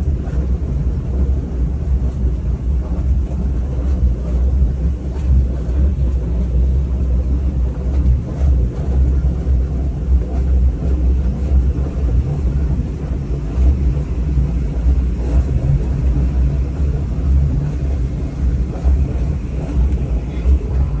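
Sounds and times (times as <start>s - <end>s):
boat engine rumbling: 0.0s - 21.0s.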